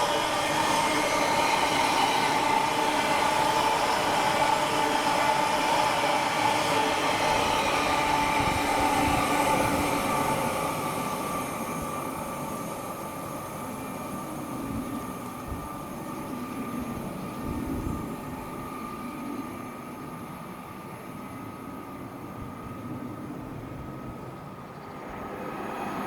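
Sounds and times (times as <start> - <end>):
train rumble: 0.0 - 26.0
train steady whine: 0.0 - 26.0.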